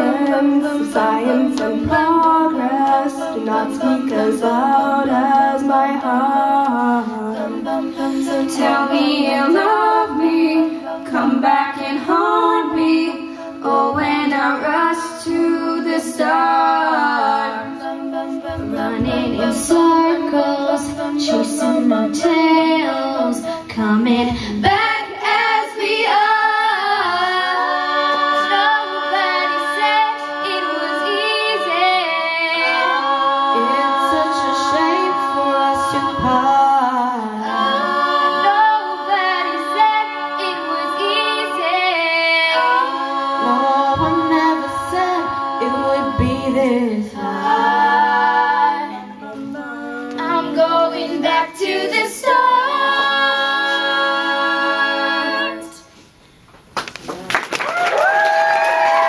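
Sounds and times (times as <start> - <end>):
female a cappella group singing: 0.0 - 56.4.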